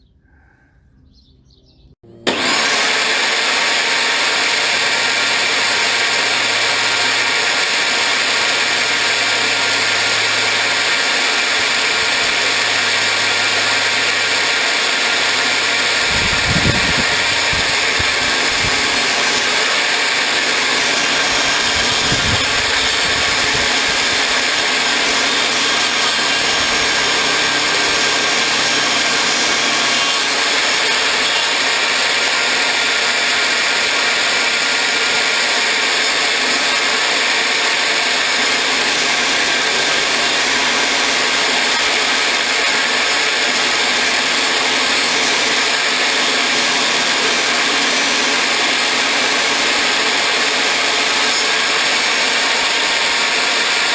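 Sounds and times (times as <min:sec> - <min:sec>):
electric power tool running: 0:02.0 - 0:53.9.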